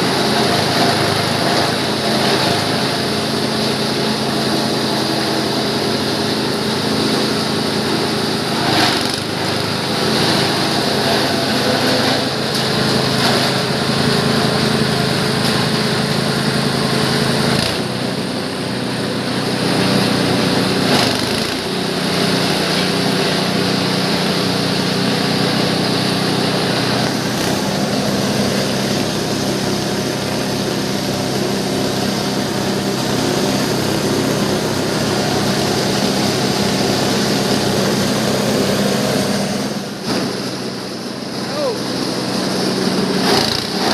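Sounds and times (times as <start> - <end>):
chopper grinder mechanical drone: 0.0 - 43.9.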